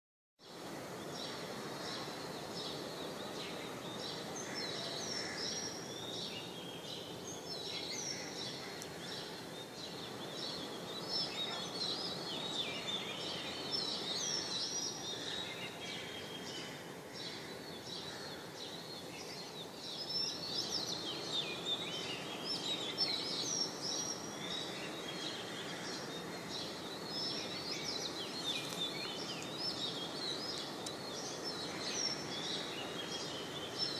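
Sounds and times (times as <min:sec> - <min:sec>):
low background noise: 0:00.4 - 0:33.9
small birds chirping and singing: 0:00.4 - 0:33.9.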